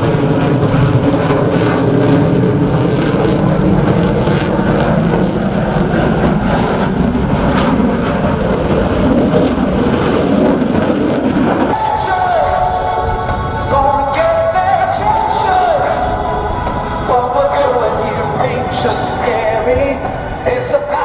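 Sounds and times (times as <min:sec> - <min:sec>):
jet noise with crackle: 0:00.0 - 0:21.0.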